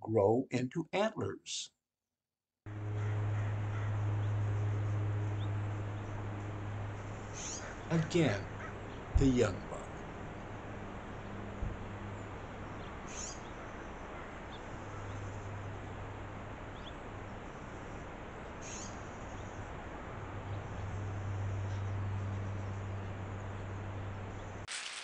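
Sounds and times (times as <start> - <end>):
low hum: 2.7 - 24.7.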